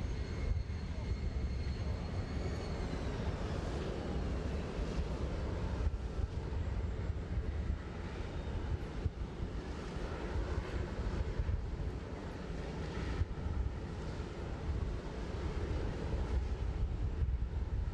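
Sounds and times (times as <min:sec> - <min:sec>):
jet airliner rumble and hiss: 0:00.0 - 0:17.9.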